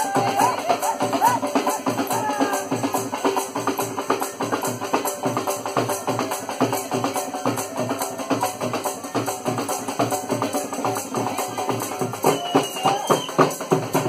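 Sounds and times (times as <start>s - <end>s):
fast drumbeat: 0.0s - 14.0s.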